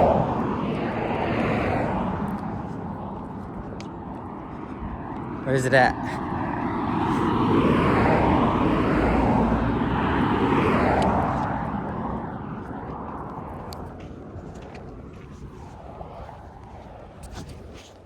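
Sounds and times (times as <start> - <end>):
vehicle passing by: 0.0 - 17.9.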